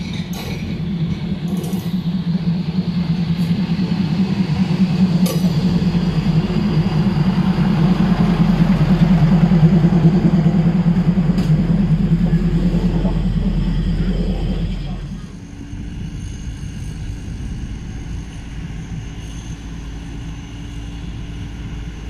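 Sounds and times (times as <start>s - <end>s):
diesel train engine droning: 0.0s - 22.0s.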